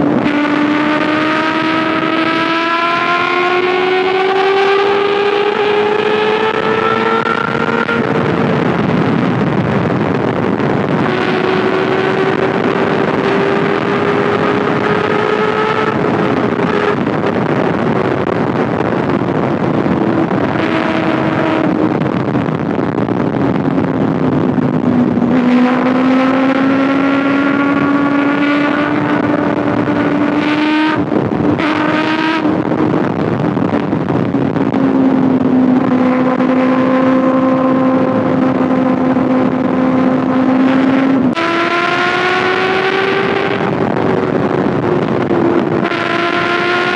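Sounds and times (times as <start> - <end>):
motorcycle engine cruising: 0.0 - 46.9
wind rushing on microphone: 0.0 - 46.9.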